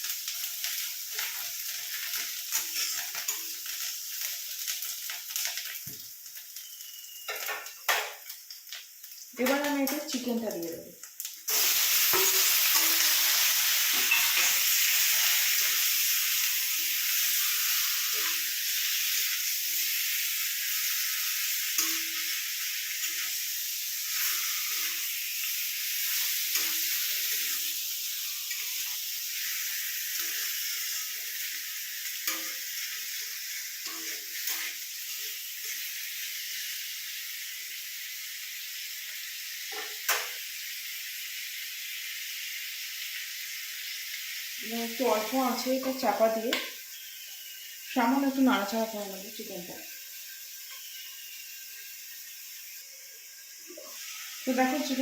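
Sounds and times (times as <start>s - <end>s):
chicken sizzling in hot oil: 0.0s - 55.0s.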